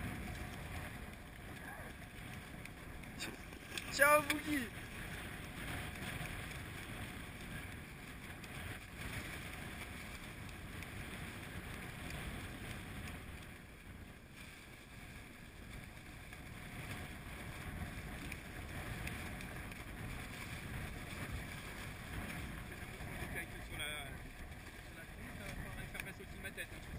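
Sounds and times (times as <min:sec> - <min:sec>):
water noise: 0:00.0 - 0:26.9
wind buffeting microphone: 0:00.0 - 0:26.9.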